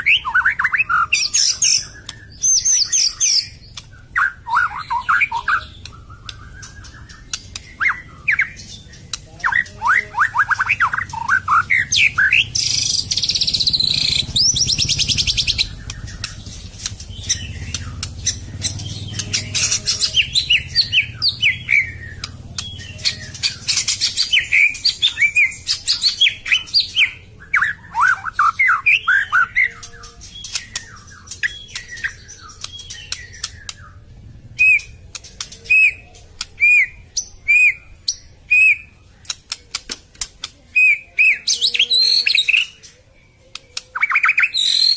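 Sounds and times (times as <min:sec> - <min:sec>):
bird singing whistled notes: 0:00.0 - 0:39.0, 0:40.8 - 0:43.0, 0:43.8 - 0:44.9.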